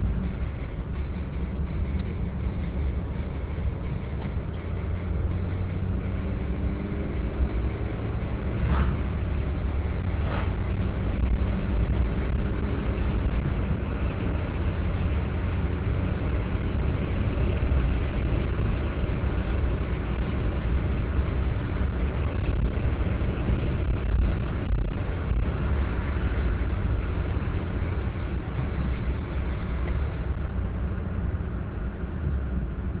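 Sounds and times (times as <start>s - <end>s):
car engine: 0.0s - 33.0s
road noise: 0.0s - 33.0s.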